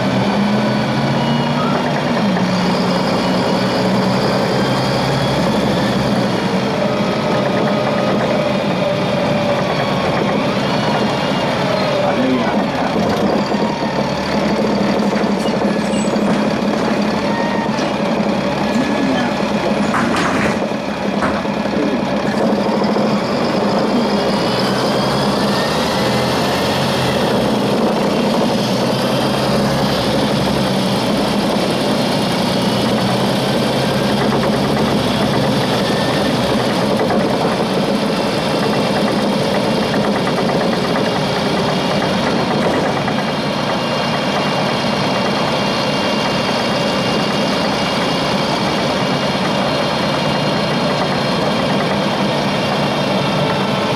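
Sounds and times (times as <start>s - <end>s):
bus diesel engine drone: 0.0s - 53.9s.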